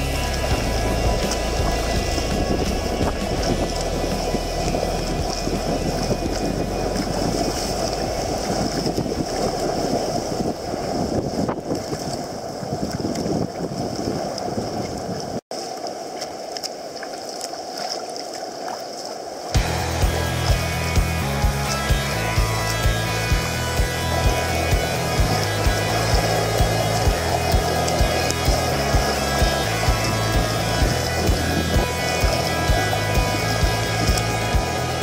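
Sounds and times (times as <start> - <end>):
wind rumbling on microphone: 0.0 - 17.1, 19.4 - 35.0
water sloshing around kayak: 0.0 - 35.0.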